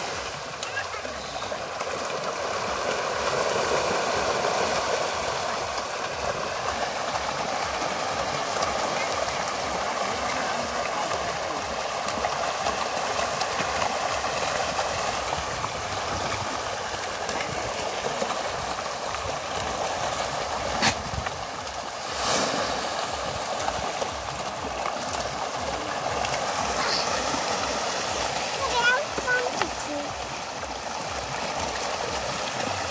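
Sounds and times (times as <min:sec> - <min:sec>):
bubbling rushing water: 0:00.0 - 0:32.9
water splash: 0:00.0 - 0:32.9.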